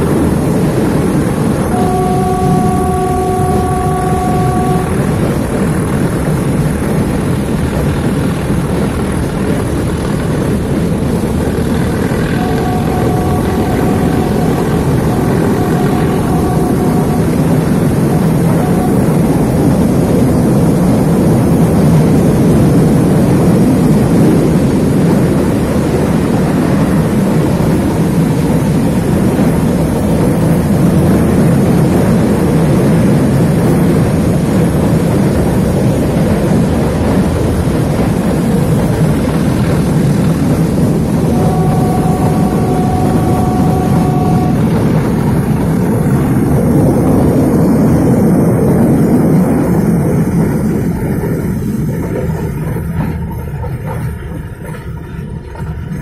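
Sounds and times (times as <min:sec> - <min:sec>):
train horn: 0:00.0 - 0:07.1, 0:11.6 - 0:50.4
diesel engine running under load: 0:00.0 - 0:54.5
train running noise: 0:00.0 - 0:56.0.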